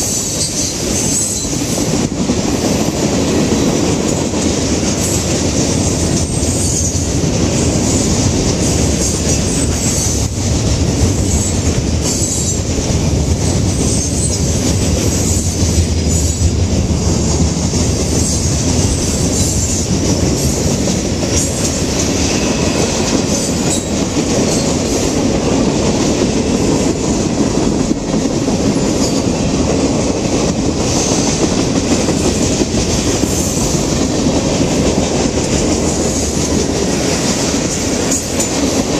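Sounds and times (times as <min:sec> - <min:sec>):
train wheels rumbling on rail: 0:00.0 - 0:38.9
wheels clacking over rail joints: 0:00.0 - 0:38.9.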